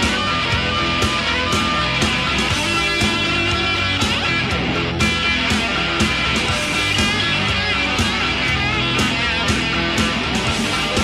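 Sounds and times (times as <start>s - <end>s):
distorted electric guitar: 0.0s - 11.0s
drums: 0.0s - 11.0s.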